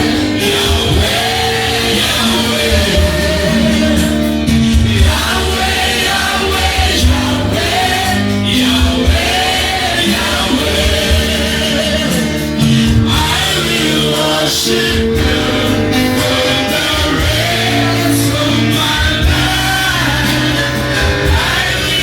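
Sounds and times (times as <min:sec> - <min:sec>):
group singing gospel music: 0:00.0 - 0:22.0.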